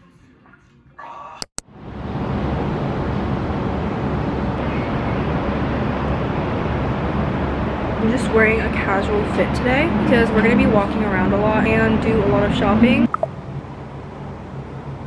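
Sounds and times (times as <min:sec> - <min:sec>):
rushing rumble: 0:01.7 - 0:15.0.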